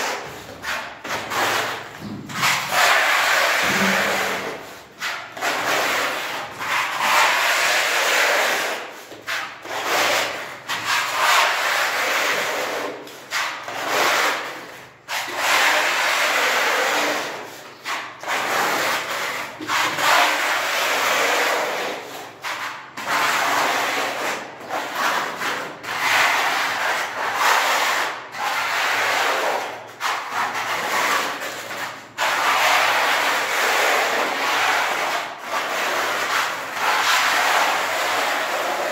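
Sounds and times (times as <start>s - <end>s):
putty knife scraping wall: 0.0s - 38.9s.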